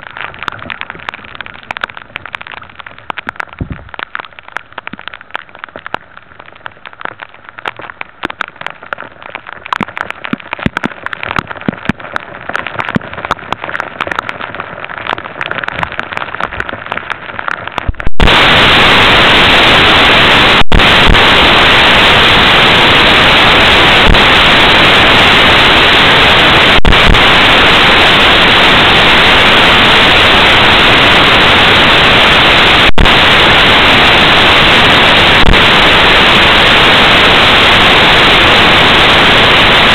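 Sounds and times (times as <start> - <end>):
loud static-like hiss: 0.0 - 39.9
raindrops pattering: 0.0 - 39.9.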